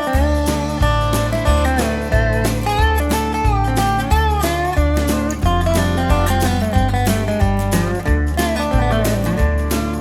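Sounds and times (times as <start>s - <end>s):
acoustic guitar music: 0.0s - 10.0s
steady bass beat: 0.0s - 10.0s.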